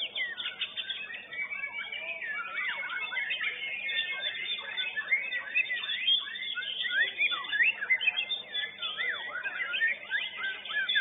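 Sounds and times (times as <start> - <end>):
birds singing fast whistles and trills: 0.0 - 11.0.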